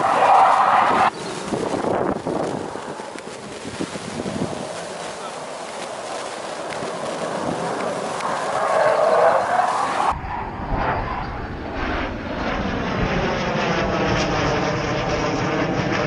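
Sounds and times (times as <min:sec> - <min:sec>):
jet fighter flying past: 0:00.0 - 0:16.0.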